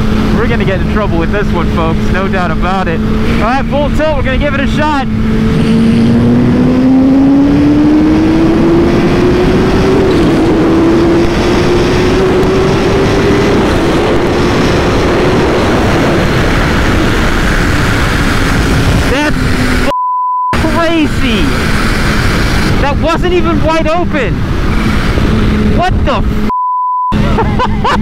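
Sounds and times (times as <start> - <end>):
heavy wind rush: 0.0 - 19.9, 20.6 - 26.5, 27.1 - 28.0
motorcycle engine accelerating: 0.0 - 19.9, 20.6 - 26.5.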